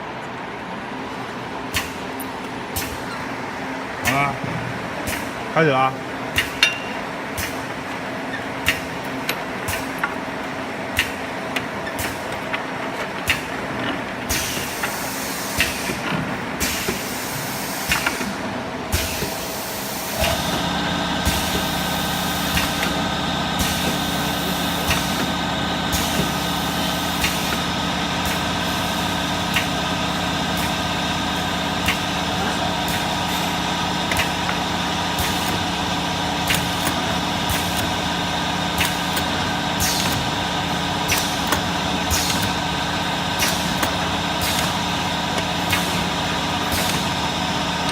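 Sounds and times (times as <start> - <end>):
machine clicks and air hisses: 1.7 - 3.1, 5.0 - 5.4, 6.3 - 7.7, 8.6 - 10.2, 10.9 - 47.9.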